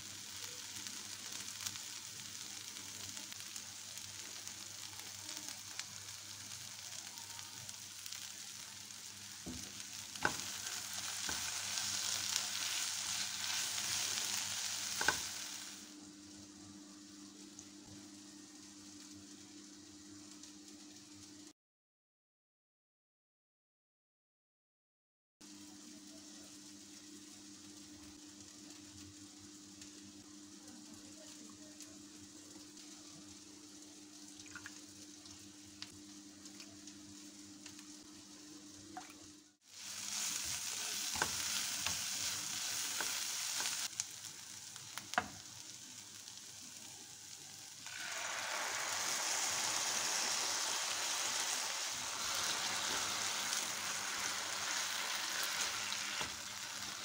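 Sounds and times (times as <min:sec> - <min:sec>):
vegetables sizzling in pan: 0:00.0 - 0:21.5, 0:25.4 - 0:57.0.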